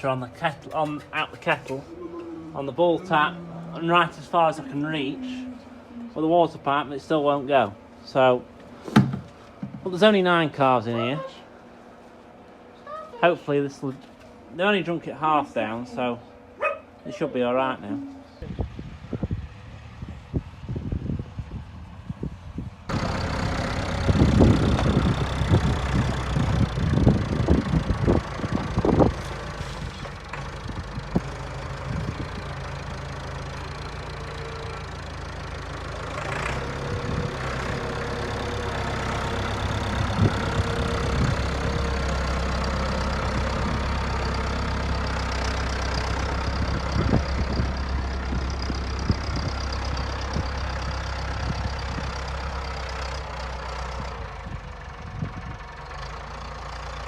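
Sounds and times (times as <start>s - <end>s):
engine running: 0.0s - 12.8s, 13.5s - 57.0s.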